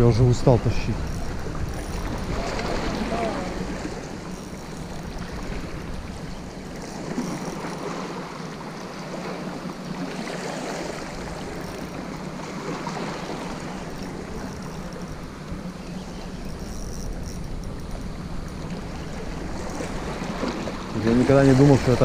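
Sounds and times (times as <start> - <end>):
sea wind: 0.0 - 22.0
surf at shoreline: 0.0 - 22.0.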